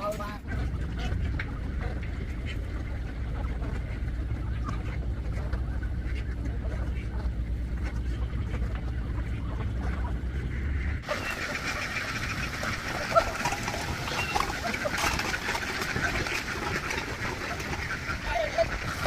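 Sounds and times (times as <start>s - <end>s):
flock of ducks quacking: 0.0s - 19.0s
low engine drone: 0.0s - 19.0s.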